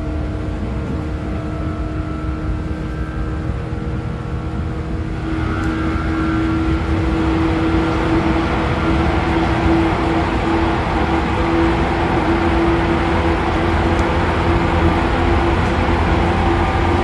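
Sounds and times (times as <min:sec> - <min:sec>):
electric train motor whine: 0:00.0 - 0:17.0
wheels rumbling on track: 0:00.0 - 0:17.0.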